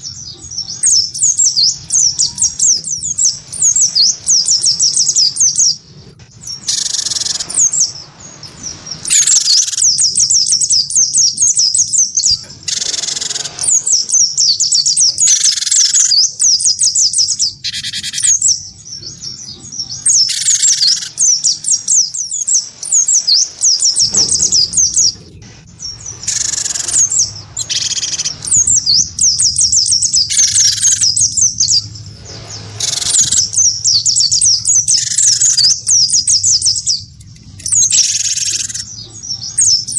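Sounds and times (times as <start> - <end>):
fast high bird twittering: 0.0 - 39.9
harsh rasping bird calls: 0.0 - 39.9.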